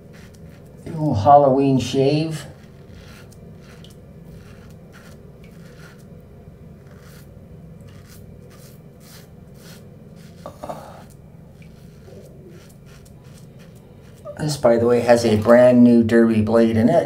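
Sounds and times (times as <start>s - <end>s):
razor scraping stubble: 0.0s - 15.6s
steady low hum: 0.0s - 17.0s.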